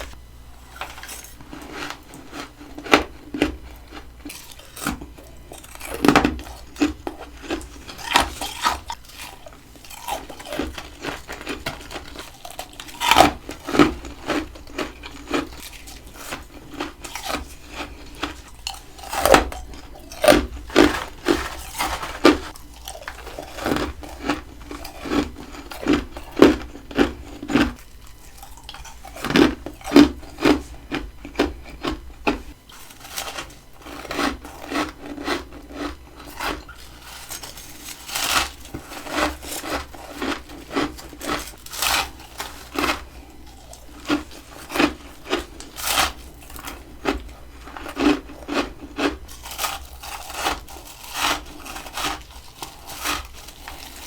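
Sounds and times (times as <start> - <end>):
frost being chewed: 0.0 - 54.0.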